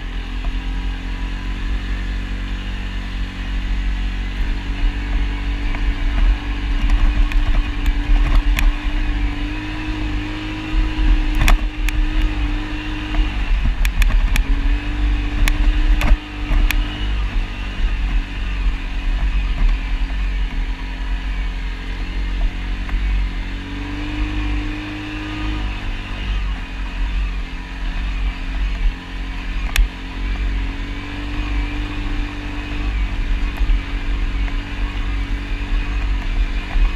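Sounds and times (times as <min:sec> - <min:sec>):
atv engine running: 0:00.0 - 0:36.9
heavy low rumble: 0:00.0 - 0:36.9.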